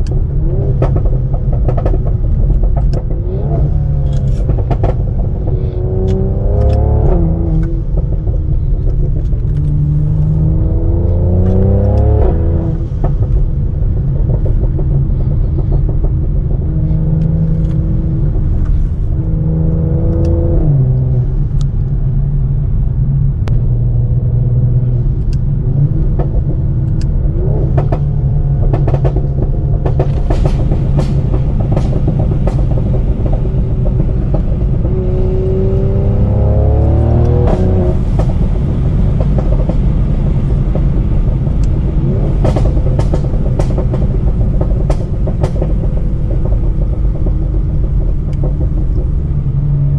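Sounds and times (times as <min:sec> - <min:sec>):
car engine revving through gears: 0:00.0 - 0:21.9, 0:23.7 - 0:49.9
exhaust pops and crackles: 0:00.0 - 0:22.0, 0:24.9 - 0:49.9.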